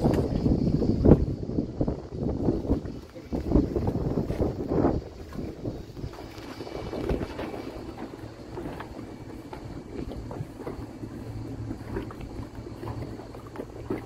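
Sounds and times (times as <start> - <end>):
low machinery hum: 0.0 - 14.0
wind on the microphone: 0.0 - 14.0.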